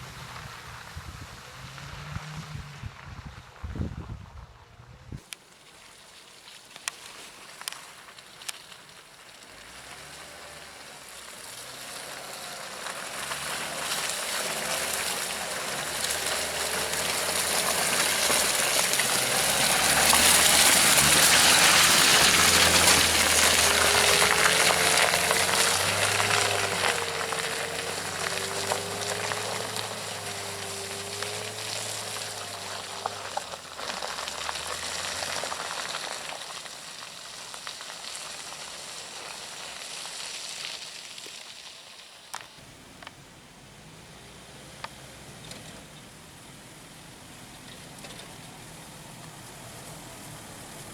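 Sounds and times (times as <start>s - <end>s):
mud and water splashing: 5.2s - 50.9s
suv engine running: 8.4s - 40.8s, 42.4s - 50.9s.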